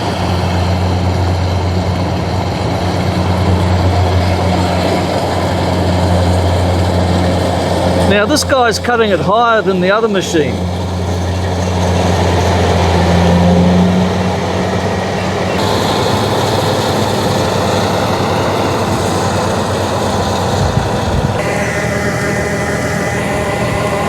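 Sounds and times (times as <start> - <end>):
combine harvester machinery: 0.0 - 24.0.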